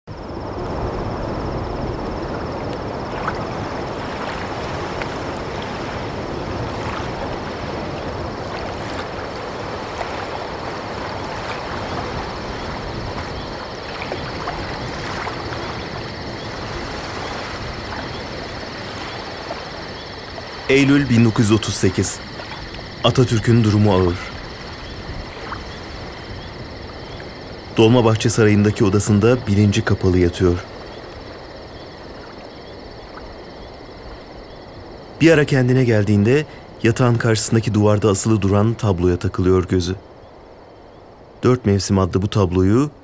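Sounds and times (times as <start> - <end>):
water-like noise: 0.0 - 43.0.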